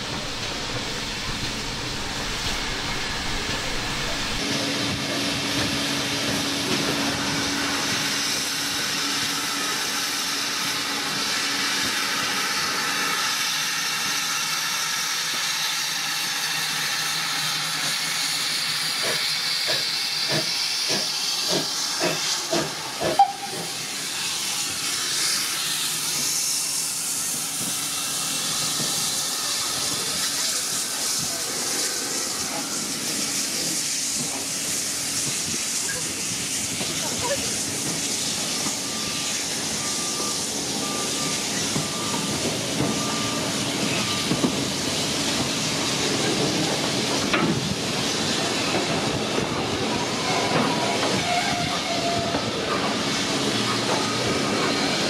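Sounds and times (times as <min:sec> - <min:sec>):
steam locomotive hissing steam: 0:00.0 - 0:55.0.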